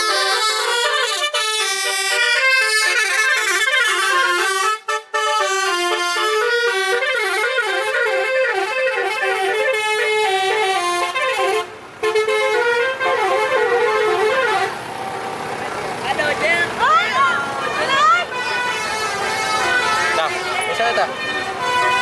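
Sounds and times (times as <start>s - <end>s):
musical truck horn melody: 0.0s - 22.0s.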